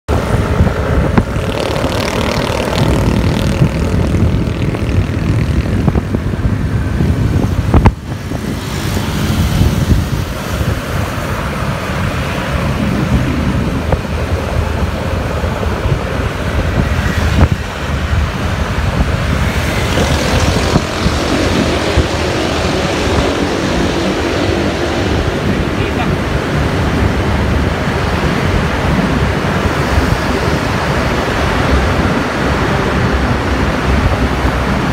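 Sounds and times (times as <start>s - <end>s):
road noise: 0.0s - 34.9s
wind rumble on microphone: 0.1s - 34.9s.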